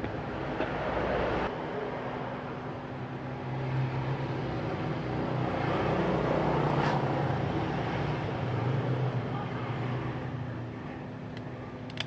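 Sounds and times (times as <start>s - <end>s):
mechanical hum with hiss: 0.0s - 12.0s.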